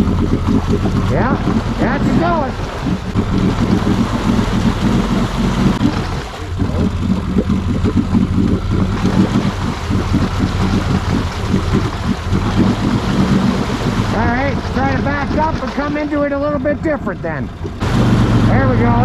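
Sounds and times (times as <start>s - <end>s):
atv engine running under load: 0.0s - 19.0s
tyres churning through mud and water: 0.0s - 19.0s.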